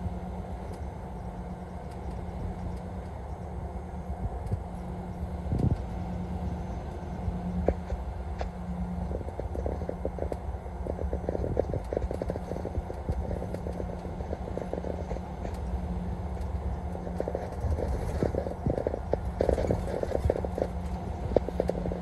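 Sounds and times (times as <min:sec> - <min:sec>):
road and engine rumble: 0:00.0 - 0:22.0
rapid light ticks: 0:00.3 - 0:22.0.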